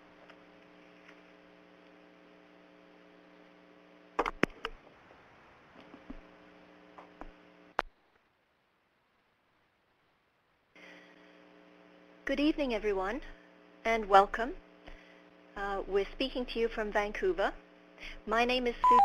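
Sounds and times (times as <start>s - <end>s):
electrical hum: 0.0s - 7.8s, 10.8s - 19.0s.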